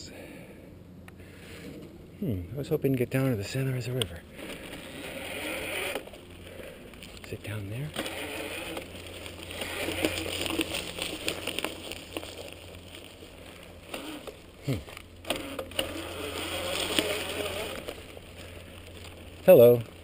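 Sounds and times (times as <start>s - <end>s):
steady low hum: 0.0s - 20.0s
tyres crunching over dirt: 2.6s - 20.0s.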